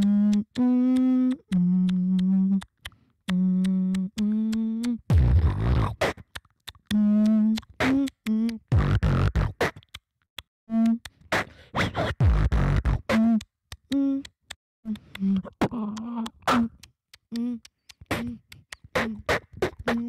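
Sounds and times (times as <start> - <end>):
person beatboxing: 0.0 - 10.0, 10.7 - 20.0.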